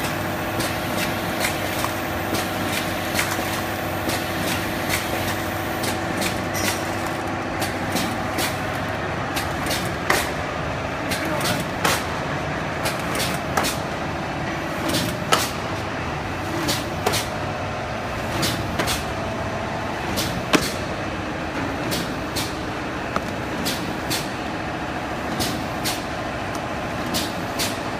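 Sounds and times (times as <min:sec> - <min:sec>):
packing machine running: 0:00.0 - 0:27.9.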